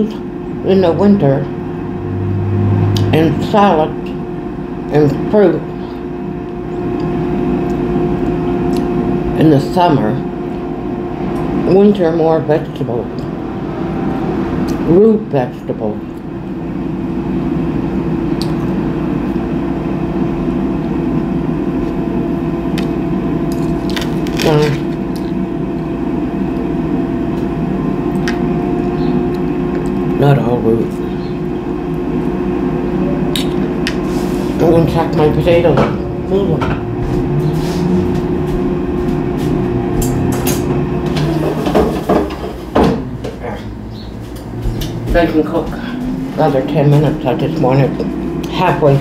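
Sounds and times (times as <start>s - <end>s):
appliance humming: 0.0s - 49.0s.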